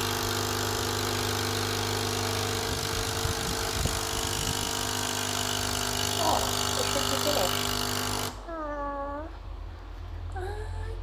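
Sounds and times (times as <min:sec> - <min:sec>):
coffee machine humming: 0:00.0 - 0:11.0.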